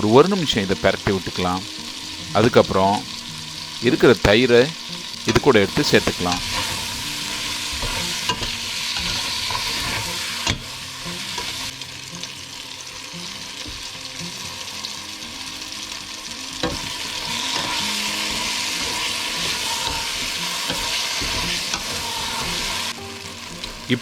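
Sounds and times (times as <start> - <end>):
spices sizzling in oil: 0.0 - 24.0.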